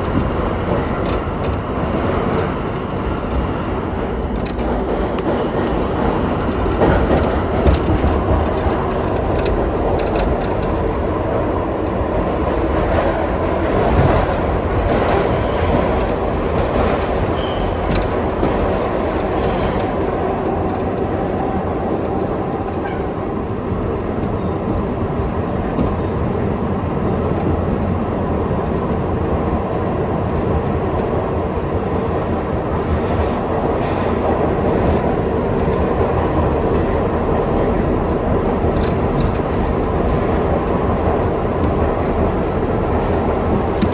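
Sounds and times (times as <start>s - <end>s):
train wheels rumbling on rail: 0.0s - 43.9s
wheels clacking over rail joints: 0.0s - 43.9s.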